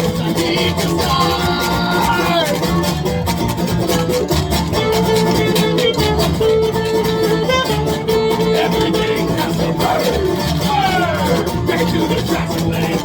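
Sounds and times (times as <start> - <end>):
folk band playing: 0.0 - 13.0.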